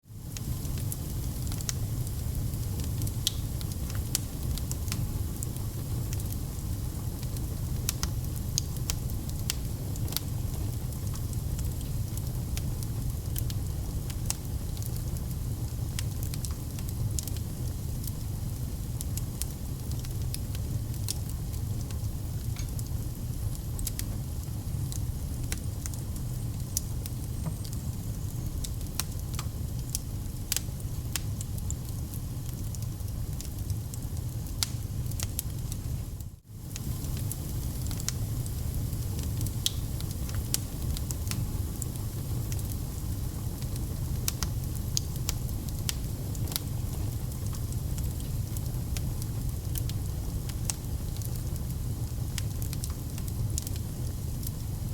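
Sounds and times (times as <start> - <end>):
fire crackling in fireplace: 0.1 - 54.9
fire popping: 0.2 - 35.9, 36.6 - 54.6.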